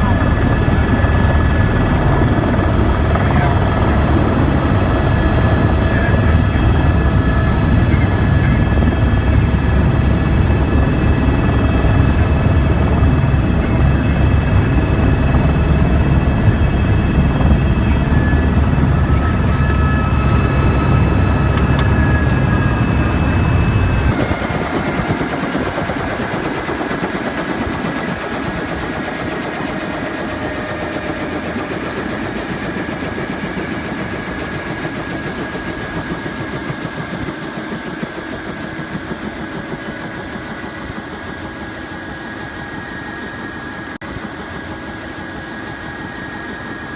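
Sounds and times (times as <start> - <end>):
helicopter rotor beat: 0.0 - 46.9
helicopter turbine whine: 0.0 - 46.9.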